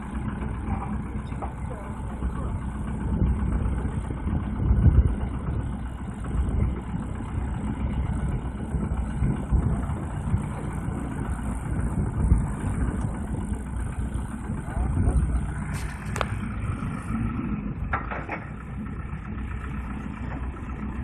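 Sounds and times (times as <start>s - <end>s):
pile rig engine and hydraulics: 0.0s - 21.0s.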